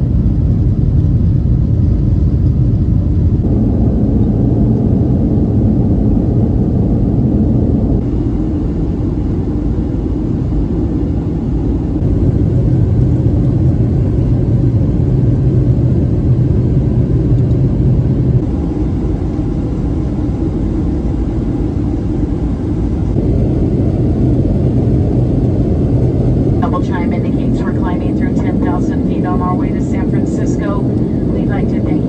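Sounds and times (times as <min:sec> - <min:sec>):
jet engine drone in cabin: 0:00.0 - 0:32.0.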